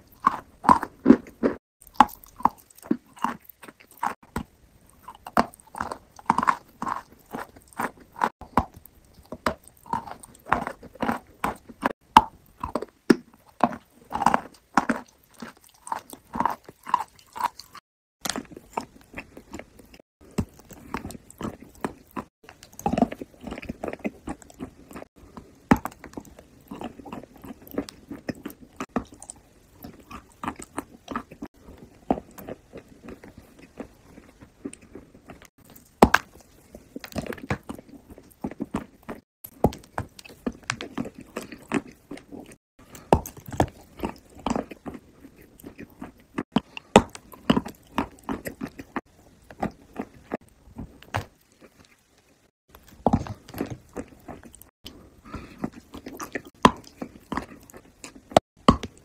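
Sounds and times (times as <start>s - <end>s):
chewing with wet mouth clicks: 0.0s - 59.0s.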